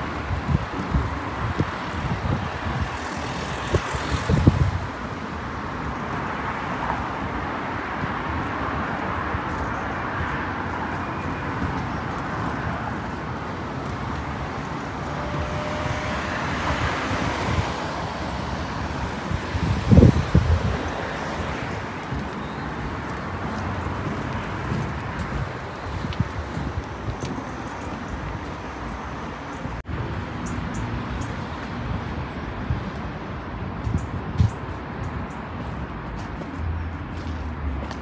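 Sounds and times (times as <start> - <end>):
wind buffeting microphone: 0.0 - 7.4, 8.6 - 38.0
road traffic noise: 0.0 - 38.0.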